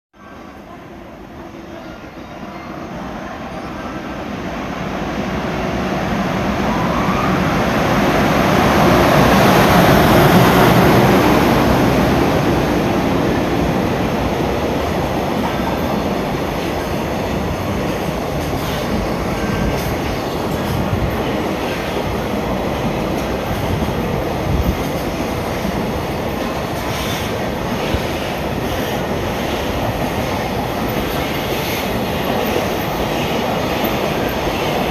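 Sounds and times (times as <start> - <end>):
freight train passing: 0.2 - 34.9.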